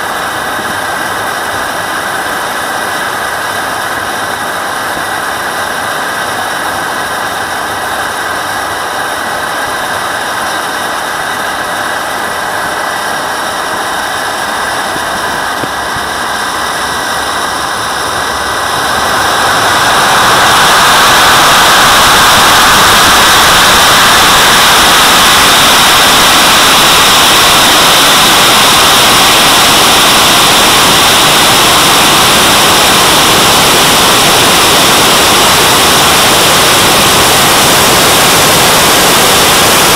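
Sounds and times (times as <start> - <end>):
model jet turbine whining and roaring: 0.0 - 39.9.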